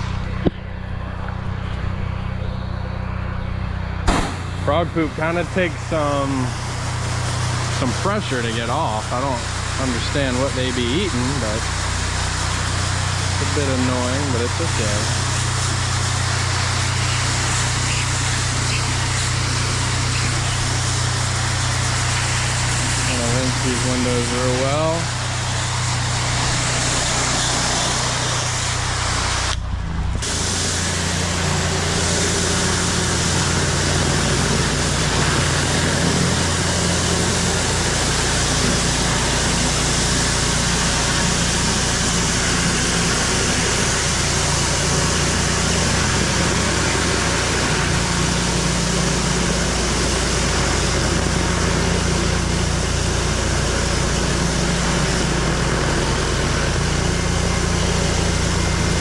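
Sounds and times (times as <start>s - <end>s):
pressure washer engine drone: 0.0s - 59.0s
water spray hissing: 4.1s - 29.6s, 30.2s - 59.0s.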